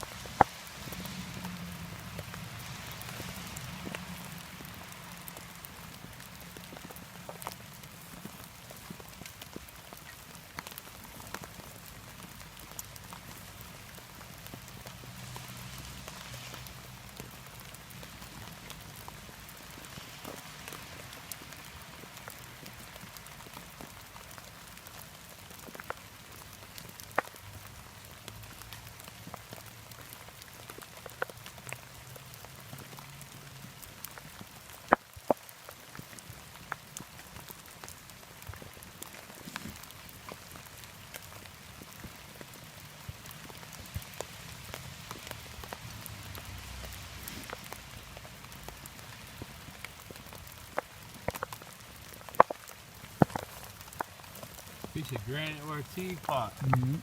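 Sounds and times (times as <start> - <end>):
sharp taps of raindrops: 0.0 - 57.0
steady rain hiss: 0.0 - 57.0.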